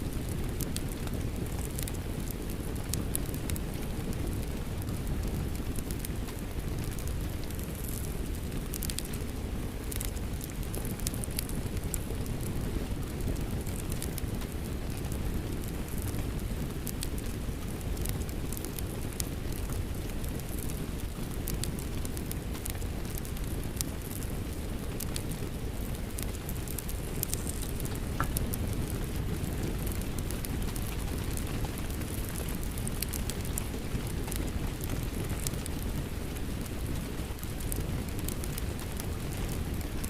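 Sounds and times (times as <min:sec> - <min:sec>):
steady rain: 0:00.0 - 0:40.0
wood fire crackling: 0:00.0 - 0:40.0.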